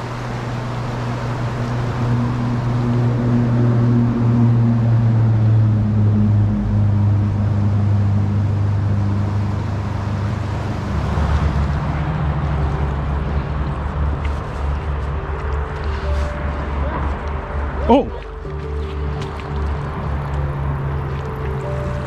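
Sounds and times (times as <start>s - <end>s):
low sustained bass tones: 0.0s - 22.0s
soft rushing wash: 0.0s - 22.0s.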